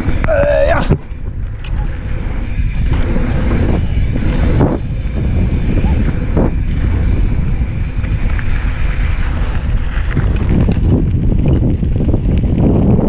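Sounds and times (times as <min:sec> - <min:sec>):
bike clicks and rattles: 0:00.0 - 0:13.0
bike tyres rolling on dirt: 0:00.0 - 0:13.0
wind buffeting microphone: 0:00.0 - 0:13.0.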